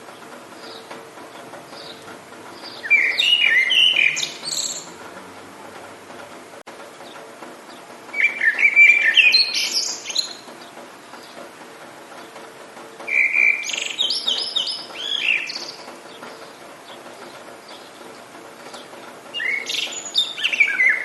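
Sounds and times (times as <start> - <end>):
songbird singing: 0.0 - 21.0
steady background hiss: 0.0 - 21.0.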